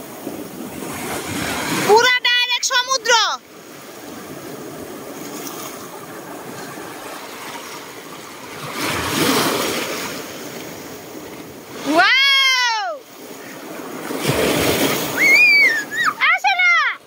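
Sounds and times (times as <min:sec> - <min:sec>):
waves washing over pebbles: 0:00.0 - 0:02.8, 0:03.5 - 0:16.4.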